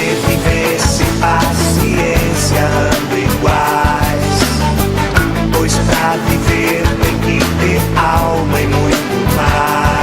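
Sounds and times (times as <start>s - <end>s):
rock band music: 0.0s - 10.0s
steady drum beat: 0.0s - 10.0s.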